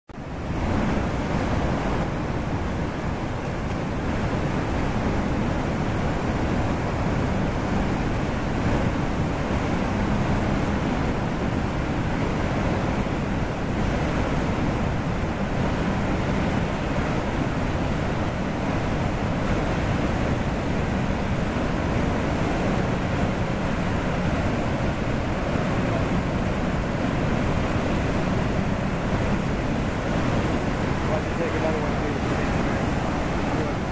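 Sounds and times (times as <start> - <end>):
water rushing through rapids: 0.2 - 33.9.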